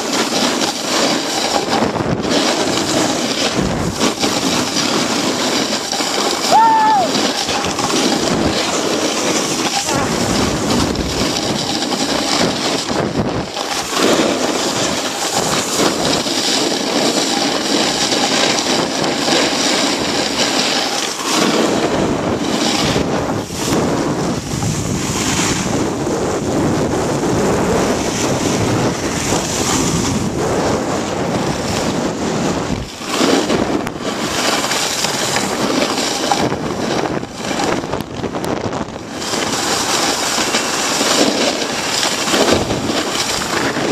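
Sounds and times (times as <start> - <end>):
wind noise on microphone: 0.0 - 43.9
gondola cabin rushing rumble: 0.8 - 43.9.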